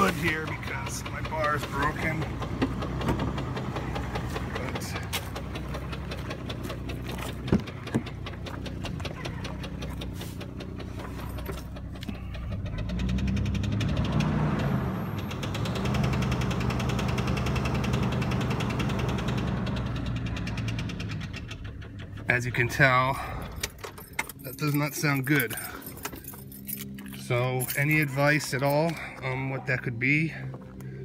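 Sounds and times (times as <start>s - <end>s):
loud rapid engine ticking: 0.0s - 26.6s
engine running and revving: 0.0s - 29.2s.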